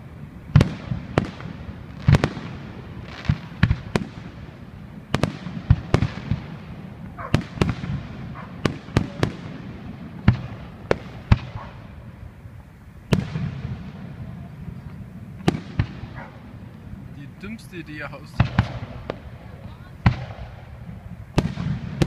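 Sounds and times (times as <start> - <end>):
low continuous rumble: 0.0 - 22.0.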